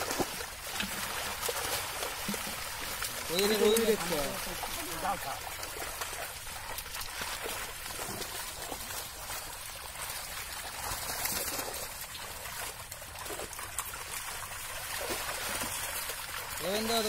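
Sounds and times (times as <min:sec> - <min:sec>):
fish splashing in water: 0:00.0 - 0:17.0
people wading in water: 0:00.0 - 0:17.0.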